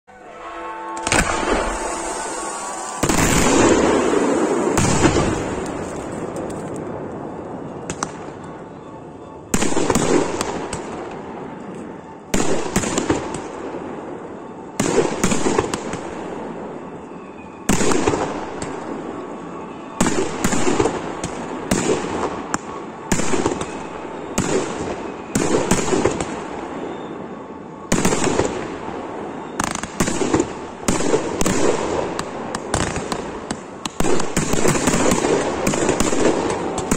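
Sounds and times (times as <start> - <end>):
fireworks bursting: 0.2 - 36.9.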